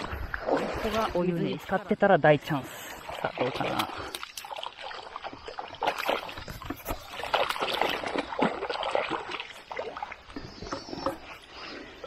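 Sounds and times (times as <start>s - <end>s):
creek water splashing: 0.0s - 12.0s.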